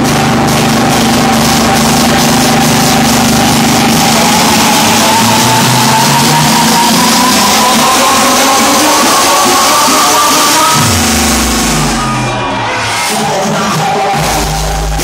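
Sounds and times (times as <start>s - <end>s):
loud electronic dance music: 0.0s - 15.0s.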